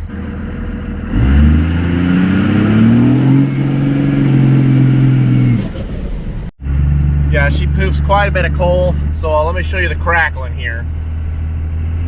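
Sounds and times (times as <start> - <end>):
diesel truck engine accelerating: 0.0 - 12.0.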